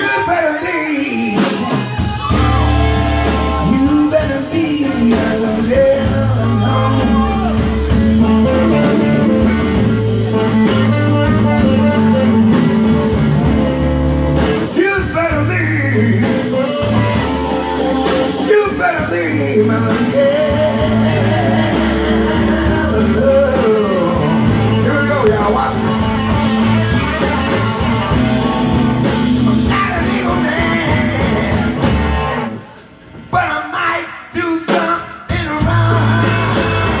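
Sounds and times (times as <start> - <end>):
man singing: 0.0 - 13.3, 14.4 - 32.1, 33.3 - 37.0
blues-rock band playing: 0.0 - 33.5, 34.4 - 37.0.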